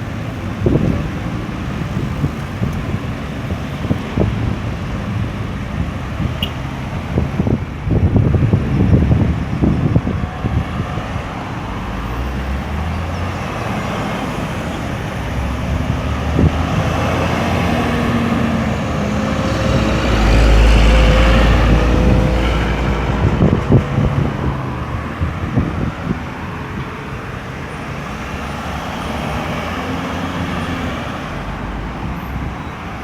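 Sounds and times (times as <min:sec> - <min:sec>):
deep rumble of close vehicle: 0:00.0 - 0:33.0
road traffic passing: 0:00.0 - 0:33.0.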